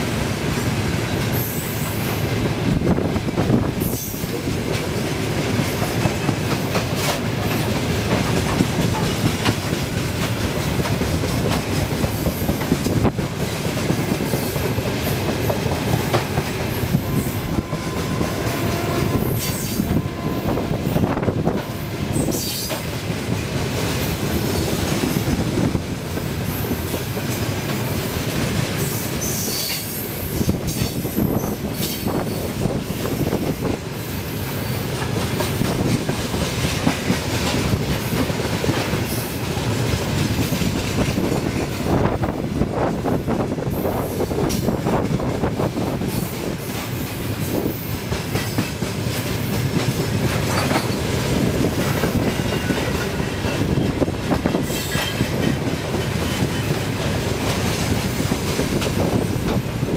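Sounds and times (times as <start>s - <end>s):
steel wheels rumbling on rails: 0.0s - 59.9s
wheels clacking over rail joints: 3.4s - 30.0s, 34.8s - 43.0s, 44.4s - 59.9s.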